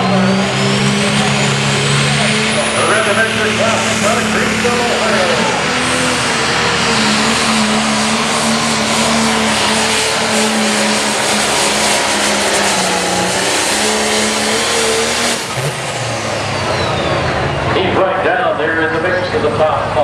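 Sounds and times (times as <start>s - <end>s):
tractor diesel engine at full throttle: 0.0s - 20.0s.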